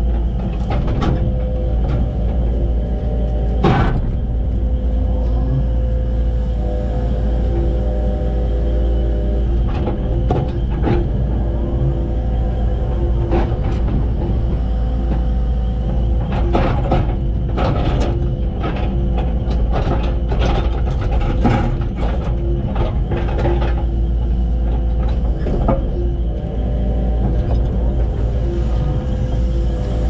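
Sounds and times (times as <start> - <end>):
machine clanks and scrapes: 0.0 - 6.6, 9.1 - 30.0
excavator diesel engine running: 0.0 - 30.0.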